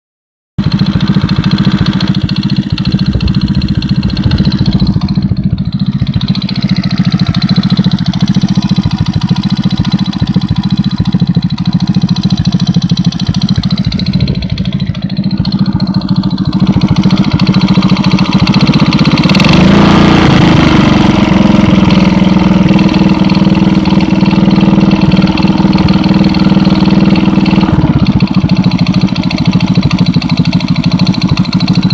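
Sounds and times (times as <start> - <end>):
engine knocking: 0.6 - 31.9
moped engine idling: 0.6 - 31.9.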